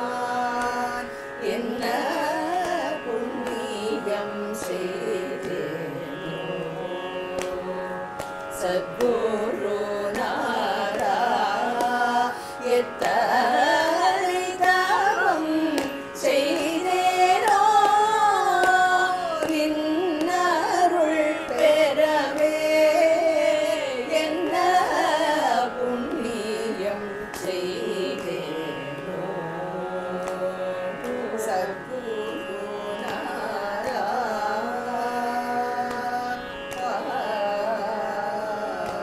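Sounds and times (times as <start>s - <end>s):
women singing together: 0.0s - 7.9s, 8.5s - 39.0s.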